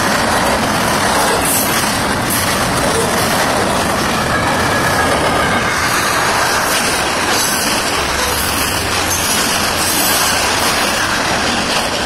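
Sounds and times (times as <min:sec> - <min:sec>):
freight train wheels on rail: 0:00.0 - 0:12.0.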